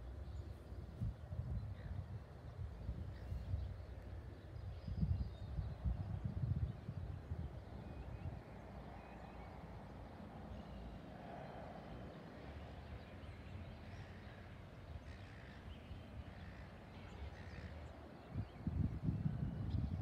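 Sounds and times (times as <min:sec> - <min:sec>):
wind rumble on microphone: 0:00.0 - 0:10.1, 0:11.1 - 0:20.0.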